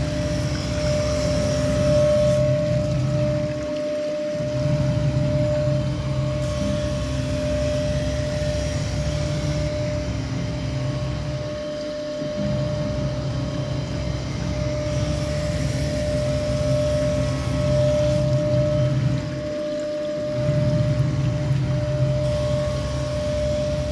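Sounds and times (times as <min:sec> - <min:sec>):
knife grinding machine whining: 0:00.0 - 0:23.9.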